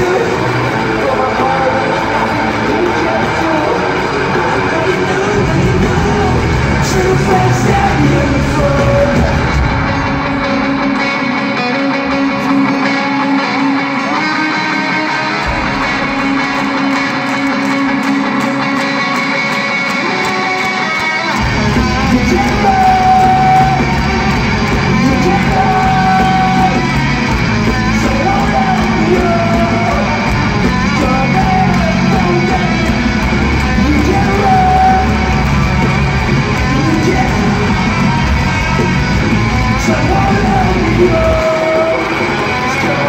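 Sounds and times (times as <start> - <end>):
electric guitar: 0.0 - 43.0
rock band playing live: 0.0 - 43.0.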